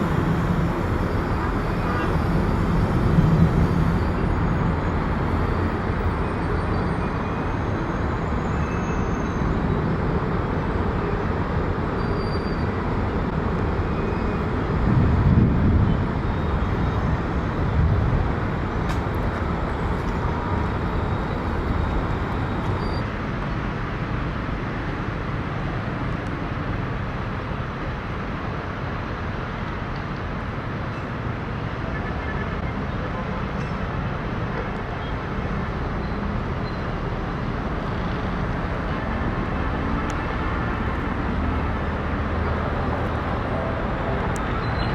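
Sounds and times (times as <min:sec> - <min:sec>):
jet airliner engine noise: 0:00.0 - 0:44.9.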